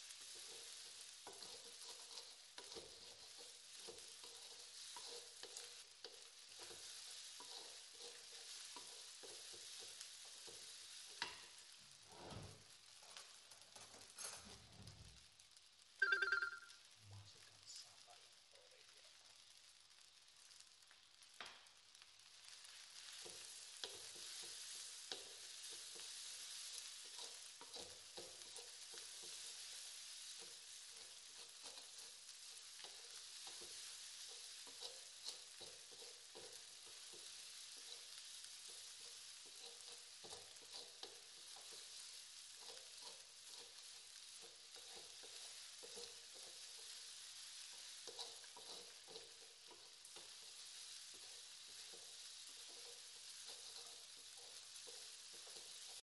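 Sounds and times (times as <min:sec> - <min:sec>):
wooden spatula scraping a pan: 0:00.0 - 0:15.0, 0:22.3 - 0:56.0
rice sizzling in a wok: 0:00.0 - 0:56.0.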